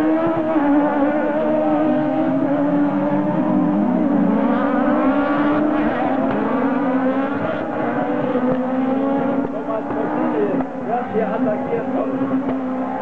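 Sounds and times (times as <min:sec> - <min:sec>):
racing buggy engines revving: 0:00.0 - 0:13.0.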